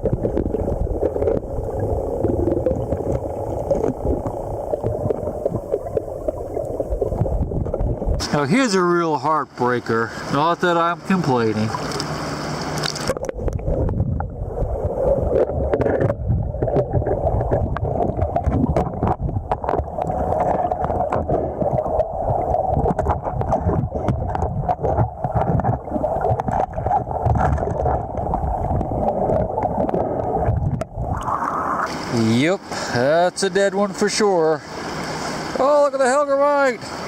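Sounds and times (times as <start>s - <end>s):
muffled rushing river water: 0.0s - 37.0s.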